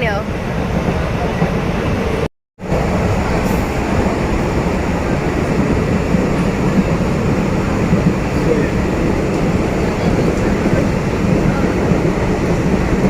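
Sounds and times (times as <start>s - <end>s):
electric train rumbling and rattling: 0.0s - 13.0s.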